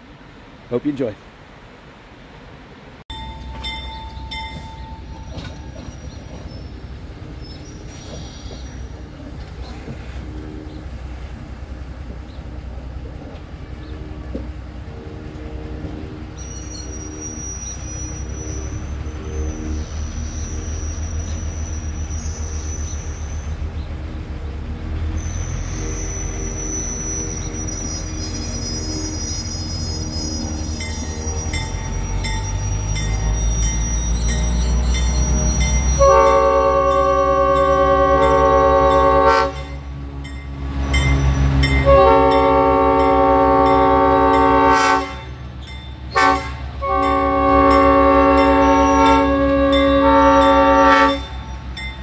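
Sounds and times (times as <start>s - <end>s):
diesel locomotive engine rumbling: 0.0s - 52.0s
wheels squealing on rails: 3.1s - 52.0s.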